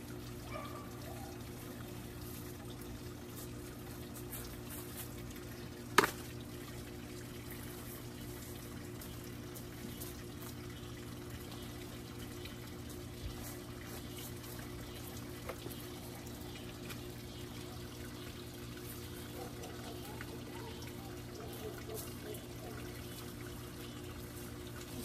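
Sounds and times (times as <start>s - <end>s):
water running: 0.0s - 25.0s.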